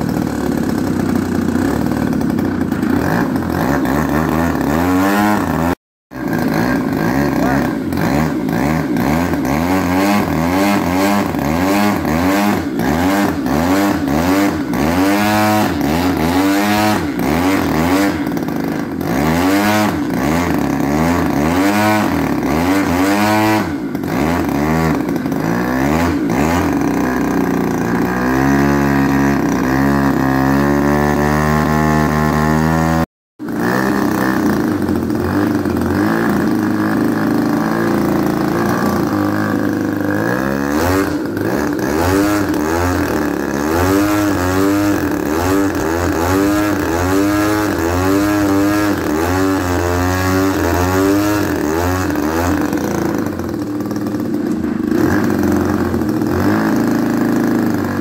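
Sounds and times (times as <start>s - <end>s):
model plane engine revving: 0.0s - 58.0s.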